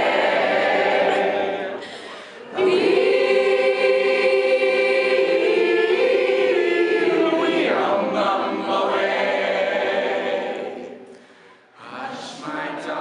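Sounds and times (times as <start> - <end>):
mixed chorus singing: 0.0 - 13.0.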